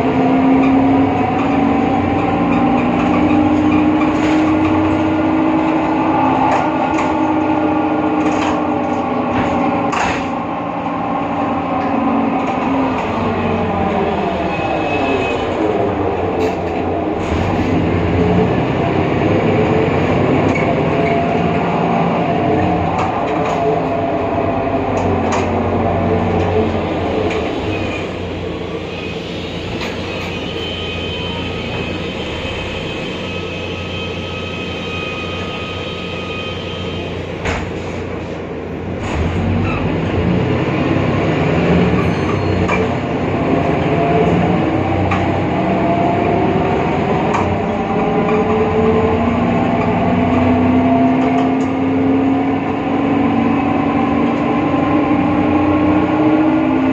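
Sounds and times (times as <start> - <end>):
bus driveline whining: 0.0 - 56.9
bus engine in motion: 0.0 - 56.9.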